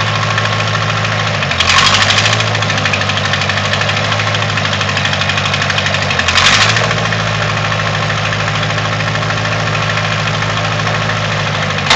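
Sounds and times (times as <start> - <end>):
backhoe engine idling: 0.0 - 11.9.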